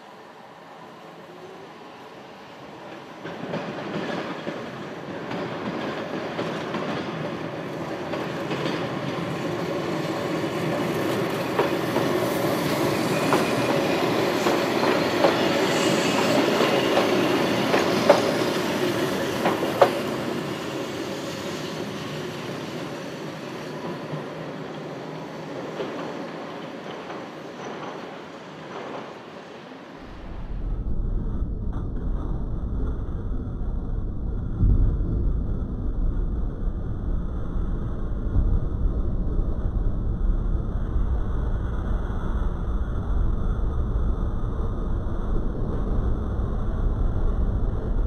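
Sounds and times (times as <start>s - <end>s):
electric train passing: 0.0s - 48.0s.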